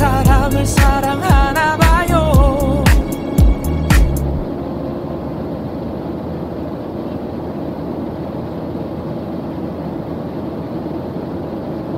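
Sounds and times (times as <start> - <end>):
jet airliner cabin noise: 0.0 - 11.9.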